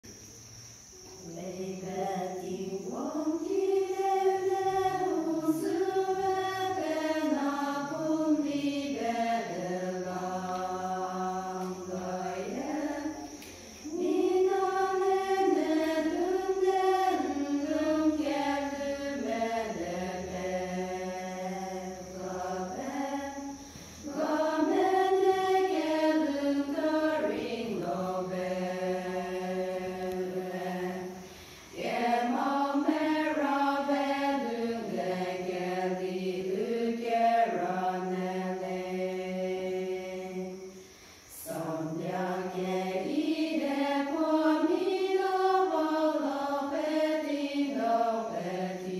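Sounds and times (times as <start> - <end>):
women's choir singing a hymn: 1.1 - 48.9.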